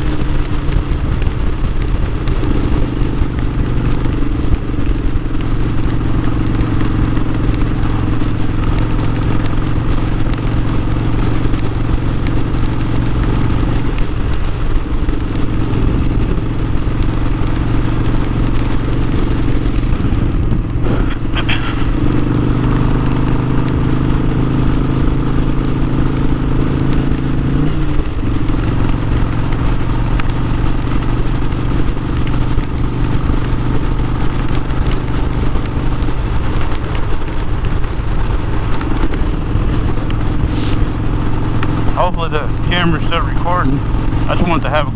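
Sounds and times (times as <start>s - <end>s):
motorcycle engine running: 0.0s - 44.9s
road and wind rush: 0.0s - 44.9s.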